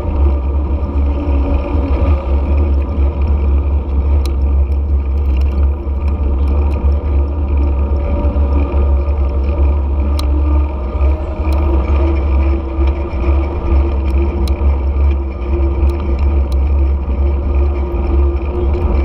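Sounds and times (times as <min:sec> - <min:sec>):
vehicle engine drone: 0:00.0 - 0:19.0
wind rumble on microphone: 0:00.0 - 0:19.0.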